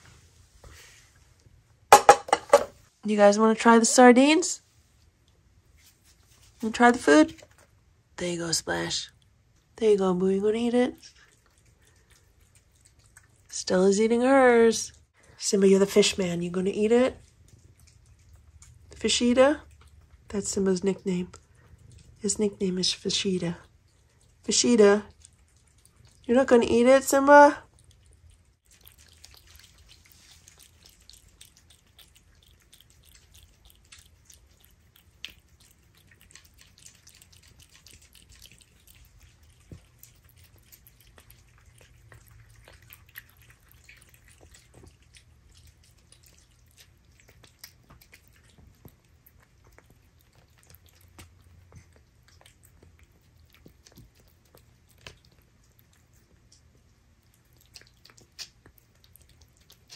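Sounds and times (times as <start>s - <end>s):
cat chewing and licking: 4.7s - 14.2s, 15.0s - 59.9s.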